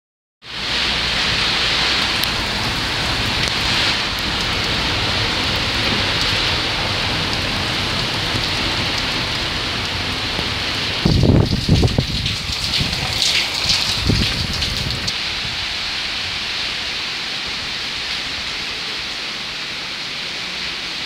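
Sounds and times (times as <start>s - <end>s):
rain falling on street: 0.4s - 21.0s.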